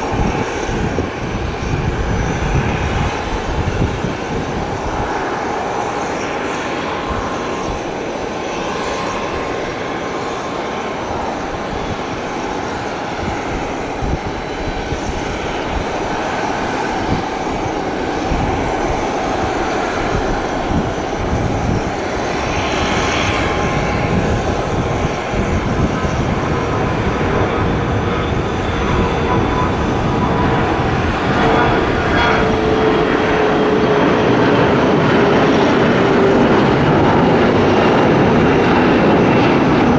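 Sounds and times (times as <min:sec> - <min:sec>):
airliner engines whining: 0:00.0 - 0:39.9
wind buffeting microphone: 0:00.0 - 0:39.9.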